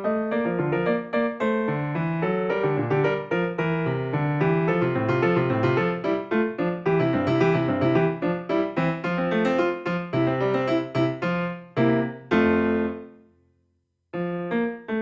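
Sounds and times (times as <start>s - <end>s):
piano music: 0.0s - 13.3s, 14.2s - 15.0s.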